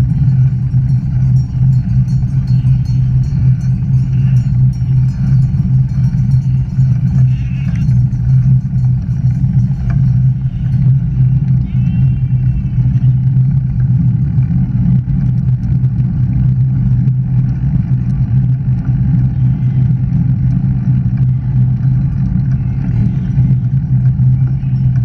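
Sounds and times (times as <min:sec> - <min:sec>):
wind and tyre rumble: 0:00.0 - 0:25.0.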